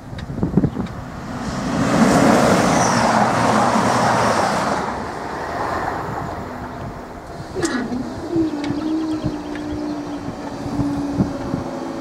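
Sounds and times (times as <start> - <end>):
passenger train passing: 0.9 - 12.0.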